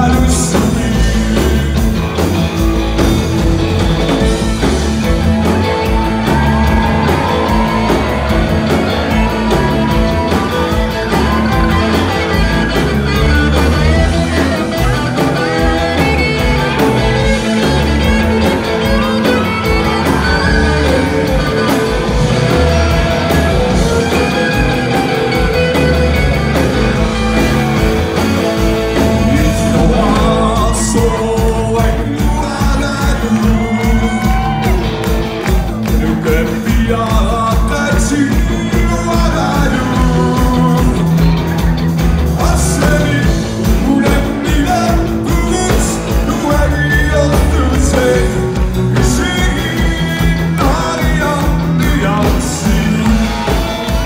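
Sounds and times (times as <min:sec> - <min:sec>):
man singing: 0:00.0 - 0:26.2, 0:26.8 - 0:35.0, 0:35.6 - 0:54.0
drums: 0:00.0 - 0:54.0
electric bass: 0:00.0 - 0:54.0
electric guitar: 0:00.0 - 0:54.0.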